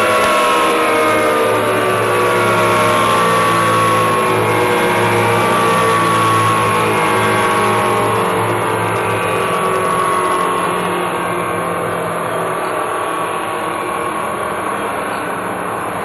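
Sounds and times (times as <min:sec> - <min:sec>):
machine hum with falling whine: 0:00.0 - 0:16.0.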